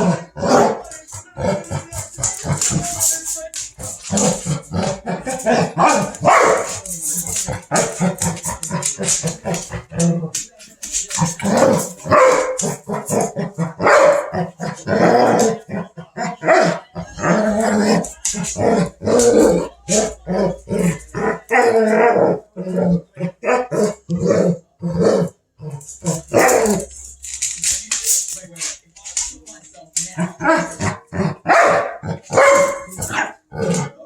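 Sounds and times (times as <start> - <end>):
dogs growling and barking: 0.0 - 29.3, 30.0 - 34.0.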